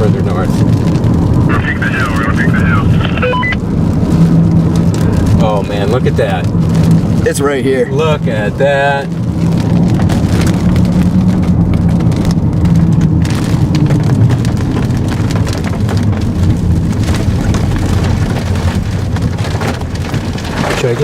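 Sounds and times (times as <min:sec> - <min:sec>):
loud dense crackling: 0:00.0 - 0:21.0
vehicle engine humming: 0:00.0 - 0:21.0.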